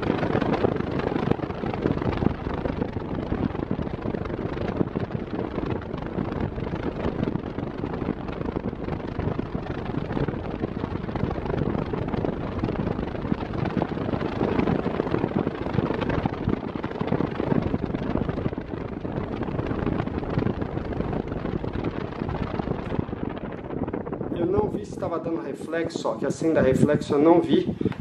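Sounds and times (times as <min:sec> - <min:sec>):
electric fan rushing airflow: 0:00.0 - 0:28.0.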